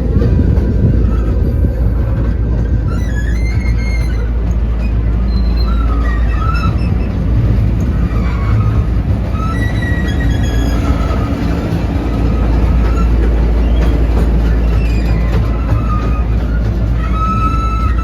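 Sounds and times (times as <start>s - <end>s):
high wavering squeals: 0.0s - 18.0s
ride train rumbling on track: 0.0s - 18.0s.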